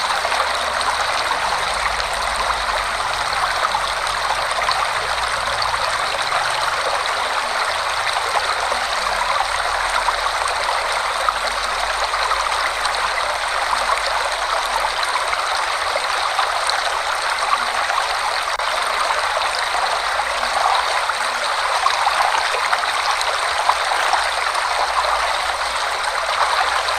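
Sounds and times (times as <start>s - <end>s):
waterfall rushing and splashing: 0.0s - 26.9s.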